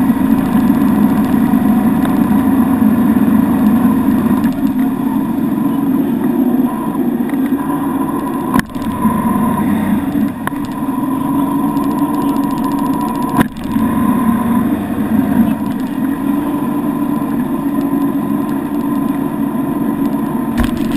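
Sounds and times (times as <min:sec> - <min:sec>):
motorboat engine running: 0:00.0 - 0:20.9.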